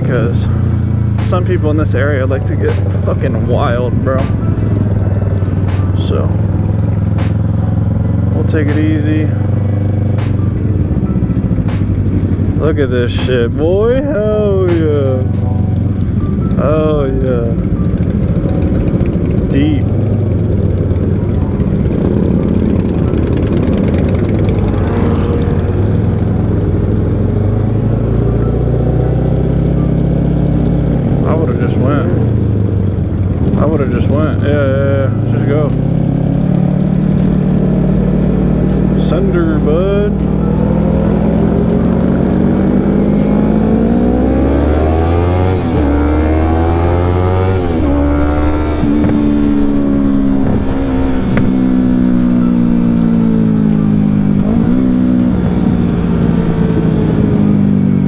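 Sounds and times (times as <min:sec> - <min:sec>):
motorcycle engine running: 0:00.0 - 0:58.0
other motorcycles: 0:00.0 - 0:58.0.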